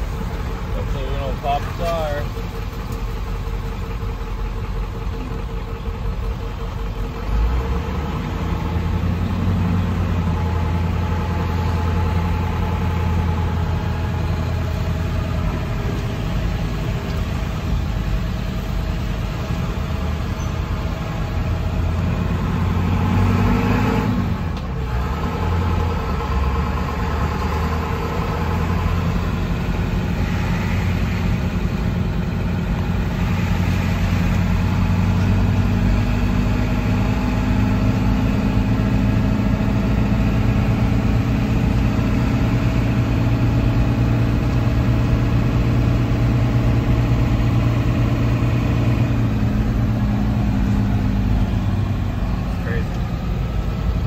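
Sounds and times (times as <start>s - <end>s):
road noise inside car cabin: 0.0s - 54.0s
vehicle engine: 0.0s - 54.0s.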